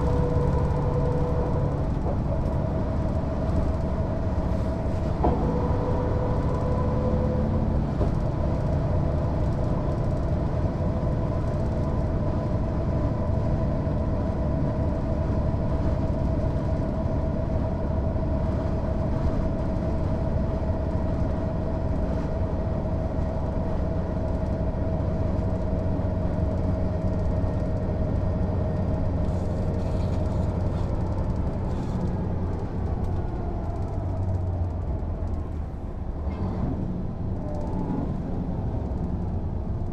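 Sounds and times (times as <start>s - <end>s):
bus diesel engine drone: 0.0s - 39.9s
bus engine whine: 0.0s - 39.9s.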